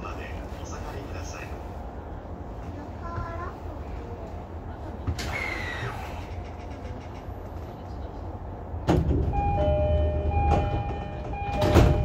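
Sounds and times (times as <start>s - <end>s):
train cab rumble: 0.0s - 12.0s.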